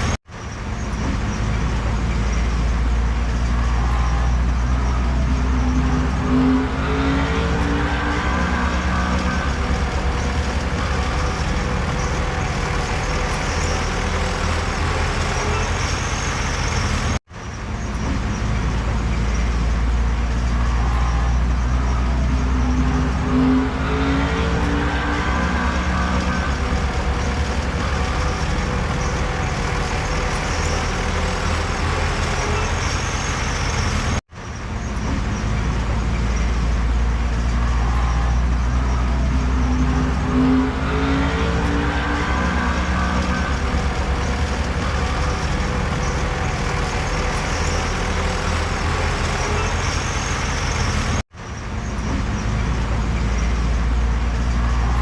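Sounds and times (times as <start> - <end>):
heavy diesel machinery rumbling: 0.0 - 55.0.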